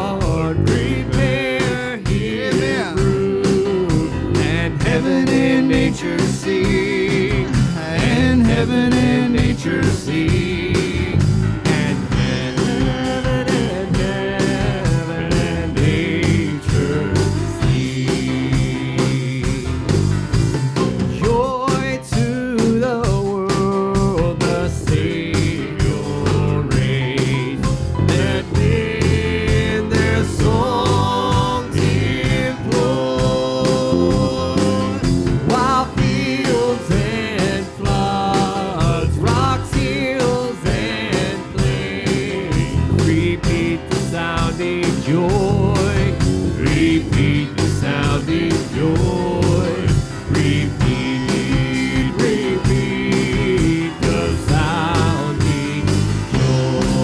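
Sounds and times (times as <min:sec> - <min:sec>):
live band playing instrumental: 0:00.0 - 0:57.0.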